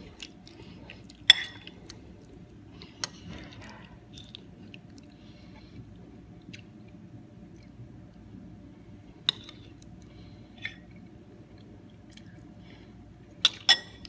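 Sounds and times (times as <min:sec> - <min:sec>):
faint chewing: 0:00.0 - 0:08.2, 0:09.2 - 0:12.9.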